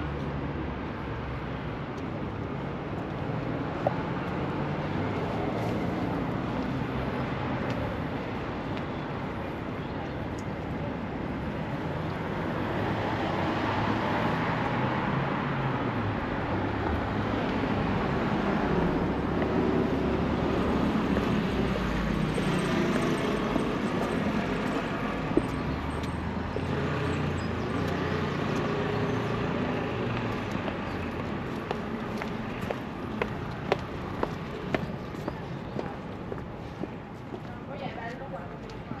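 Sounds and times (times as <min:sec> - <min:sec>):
road rumble: 0:00.0 - 0:39.0.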